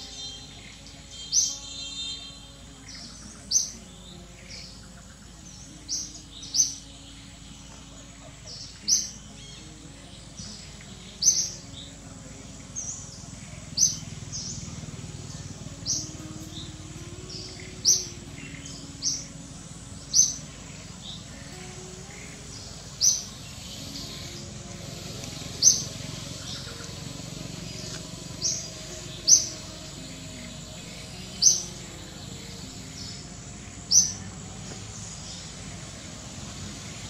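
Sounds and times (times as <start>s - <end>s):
bird chirping: 0.0s - 37.0s.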